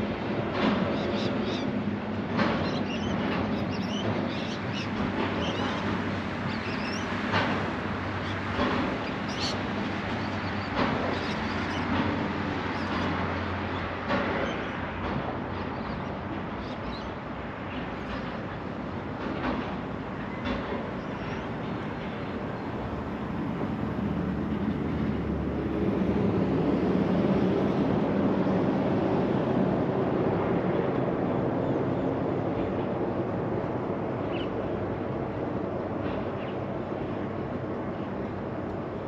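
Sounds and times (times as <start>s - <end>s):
freight train rumbling by: 0.0s - 39.0s.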